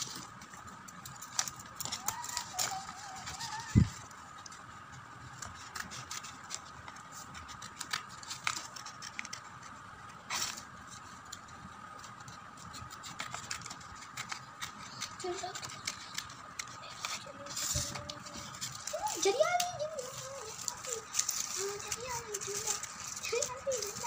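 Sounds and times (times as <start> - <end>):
scissors snipping paper: 0.0 - 4.6, 5.2 - 24.0
faint steady hum: 0.0 - 24.0
paper rustling: 0.0 - 24.0.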